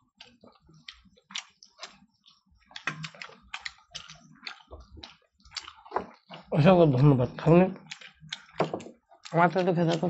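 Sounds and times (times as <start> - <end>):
wet chewing and lip smacking: 0.0 - 10.0.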